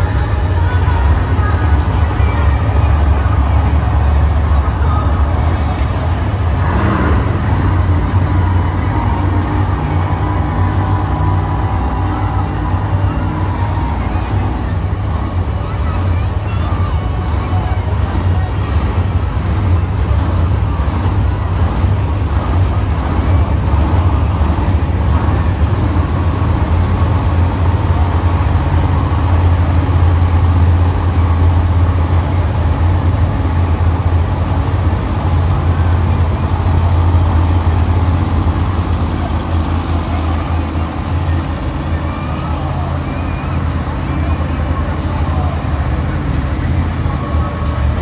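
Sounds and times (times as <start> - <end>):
truck engine at low revs: 0.0 - 48.0.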